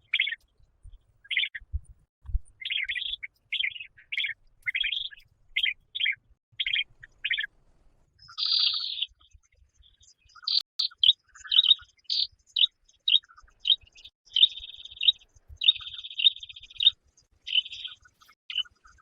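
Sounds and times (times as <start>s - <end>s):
bird chirping: 0.0s - 7.5s, 8.1s - 19.0s.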